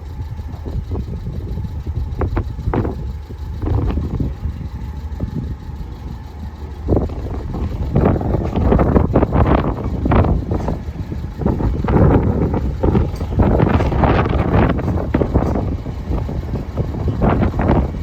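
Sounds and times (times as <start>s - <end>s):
road traffic rumble: 0.0s - 18.0s
traffic knocks and rushes: 0.0s - 18.0s.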